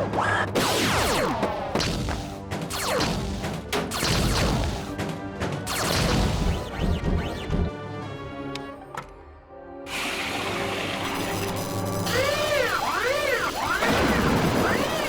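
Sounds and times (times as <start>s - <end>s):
cartoon action music: 0.0s - 8.4s, 9.9s - 15.0s.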